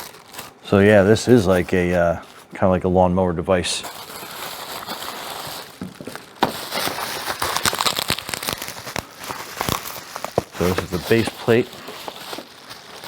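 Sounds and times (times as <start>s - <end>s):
plastic packaging crinkling: 0.0s - 2.7s, 3.4s - 13.0s.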